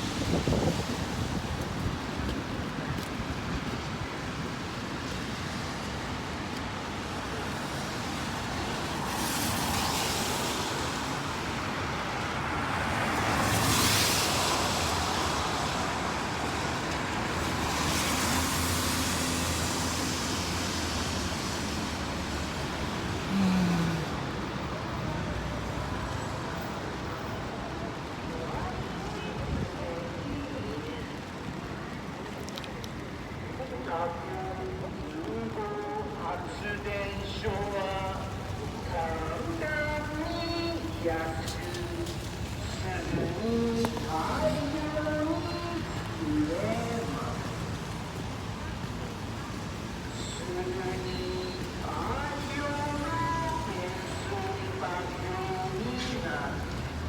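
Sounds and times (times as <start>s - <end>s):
rain: 0.0s - 57.0s
traffic on wet street: 0.0s - 57.0s
vehicles passing: 0.0s - 57.0s
wind: 0.0s - 57.0s.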